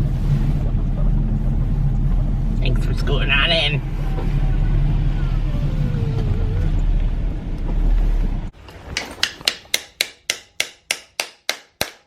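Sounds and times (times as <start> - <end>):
car driving rumble: 0.0 - 9.8.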